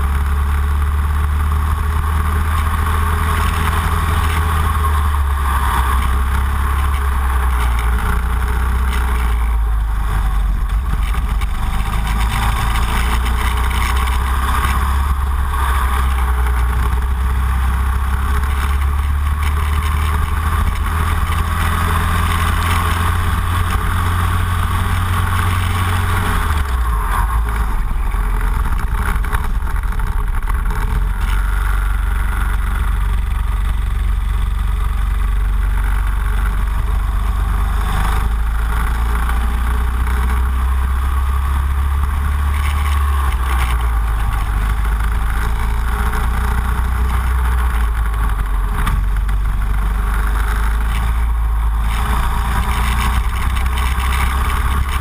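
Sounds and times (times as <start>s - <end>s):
kart engine running: 0.0s - 55.0s.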